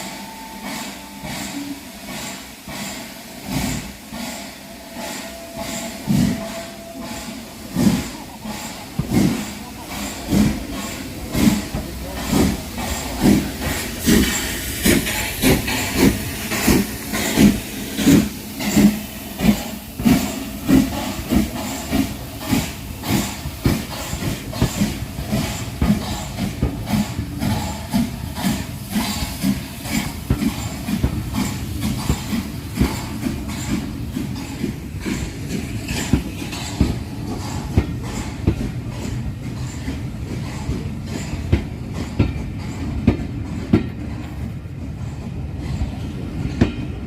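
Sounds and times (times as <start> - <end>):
steam hiss: 0.0 - 46.6
steam locomotive chuffing: 0.0 - 47.0.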